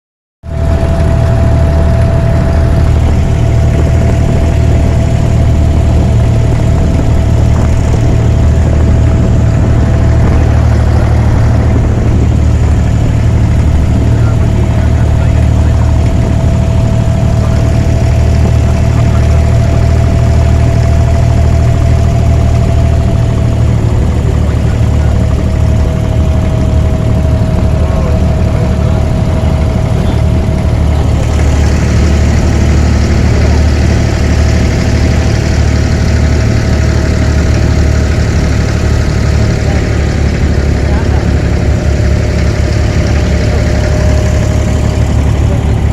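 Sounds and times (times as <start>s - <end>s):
boat diesel engine droning: 0.4s - 45.9s.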